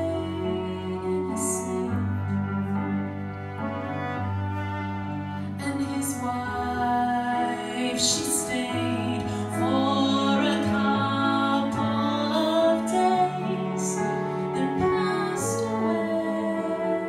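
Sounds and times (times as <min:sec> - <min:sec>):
woman singing: 0:00.0 - 0:02.6, 0:05.6 - 0:17.0.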